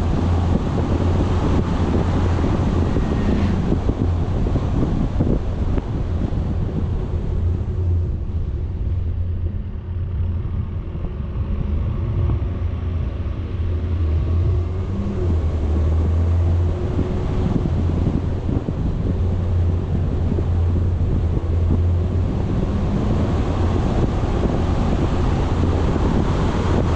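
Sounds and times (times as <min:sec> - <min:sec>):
vehicle engine and road rumble: 0:00.0 - 0:26.9
wind buffeting microphone: 0:00.0 - 0:26.9.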